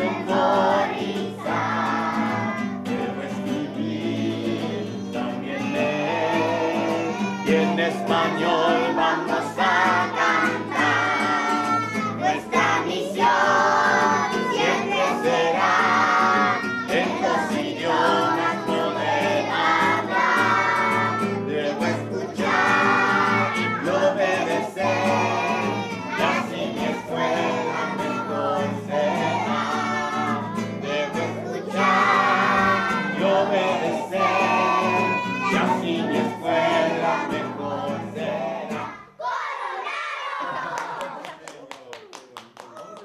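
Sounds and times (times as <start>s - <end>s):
children singing together: 0.0s - 40.8s
guitar: 0.0s - 41.3s.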